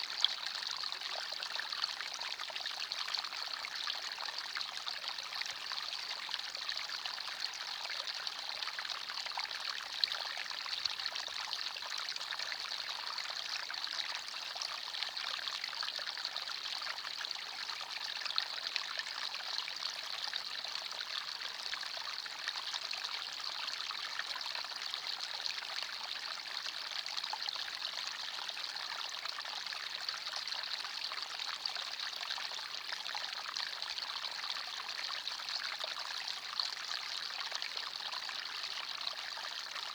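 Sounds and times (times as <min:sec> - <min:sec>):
stream water trickling over stones: 0:00.0 - 0:39.9.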